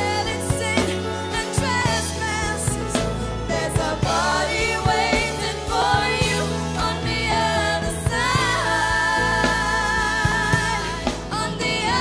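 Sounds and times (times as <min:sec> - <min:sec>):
steady bass notes: 0:00.0 - 0:12.0
woman singing: 0:00.0 - 0:12.0.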